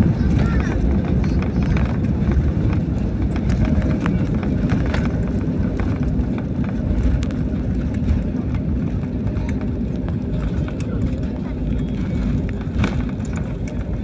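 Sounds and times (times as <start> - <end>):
airliner engines and wheels rumbling: 0.0 - 14.0
light cabin rattles: 0.0 - 14.0.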